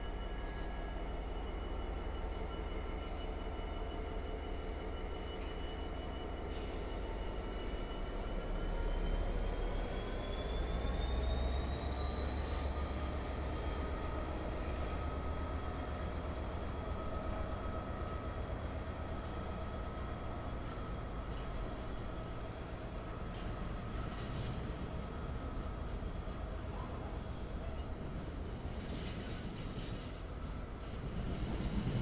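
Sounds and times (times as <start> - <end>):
train rumbling and whining: 0.0 - 32.0.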